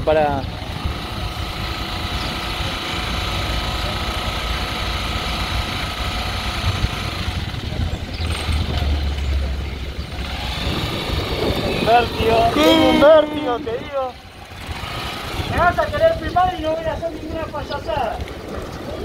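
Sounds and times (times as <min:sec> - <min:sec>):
motorcycle engine idling: 0:00.0 - 0:19.0
deep rumble: 0:00.5 - 0:19.0.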